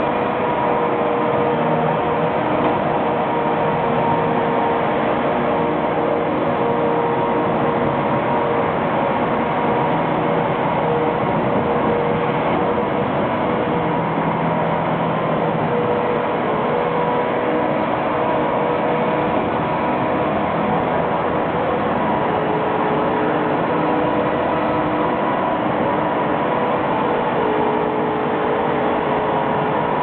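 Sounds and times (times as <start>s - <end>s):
tractor sweeper mechanical drone: 0.0s - 30.0s.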